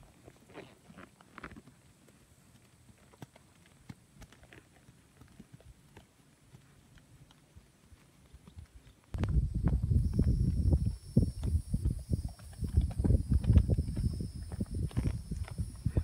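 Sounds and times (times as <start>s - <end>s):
horse hoofbeats on sand: 0.0s - 16.0s.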